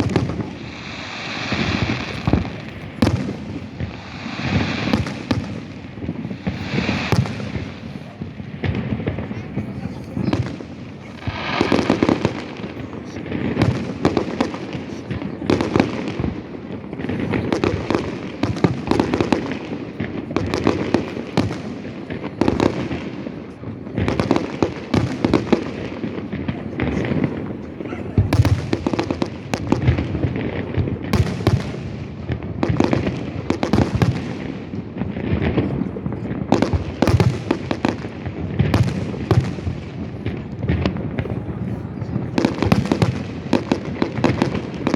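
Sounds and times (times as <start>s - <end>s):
fireworks bursting: 0.0s - 44.9s
fireworks crackling: 0.0s - 44.9s.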